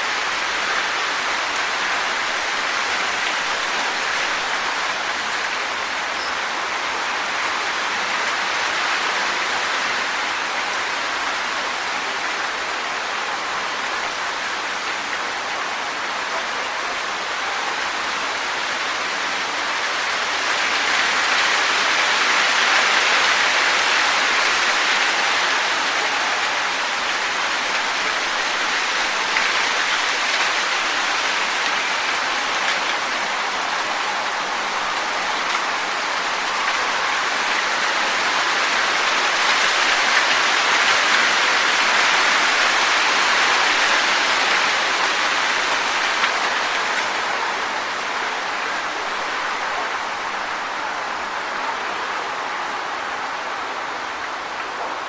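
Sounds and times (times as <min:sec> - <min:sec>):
wind rustling leaves: 0:00.0 - 0:55.0.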